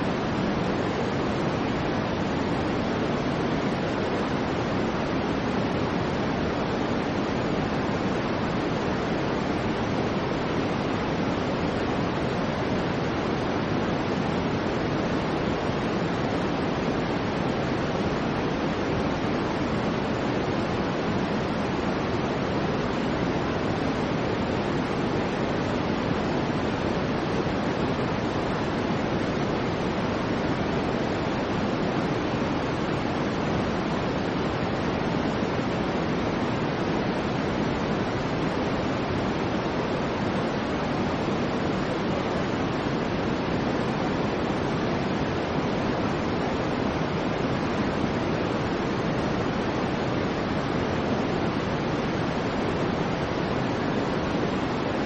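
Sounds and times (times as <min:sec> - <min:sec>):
soft white noise hiss: 0:00.0 - 0:55.0.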